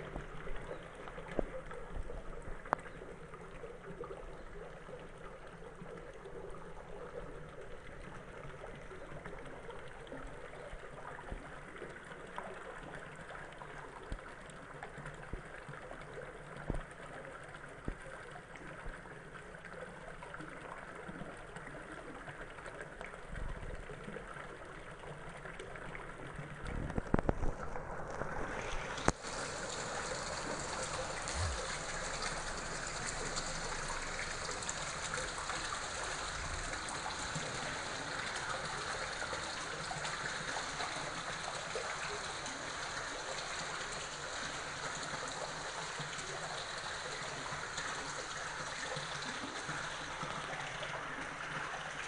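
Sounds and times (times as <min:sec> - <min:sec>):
water trickling over stone ledge: 0:00.0 - 0:52.0.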